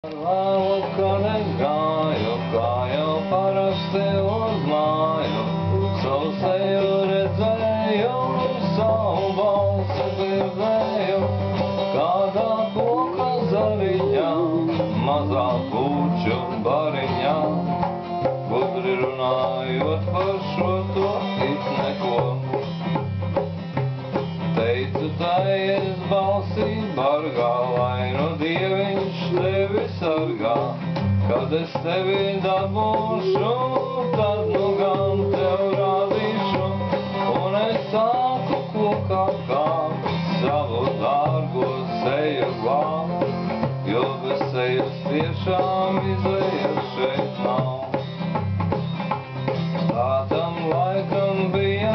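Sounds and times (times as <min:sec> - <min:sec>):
acoustic guitar playing: 0:00.0 - 0:51.9.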